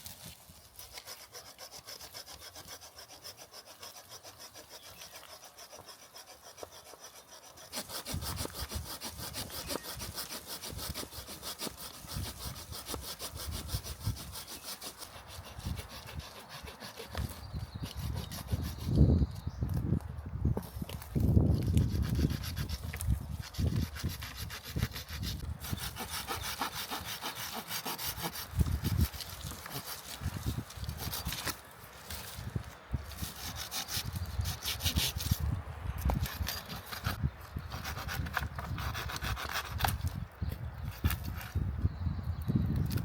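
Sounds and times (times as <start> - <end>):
hand saw cutting wood: 0.0 - 19.0, 21.6 - 32.4, 33.1 - 40.1.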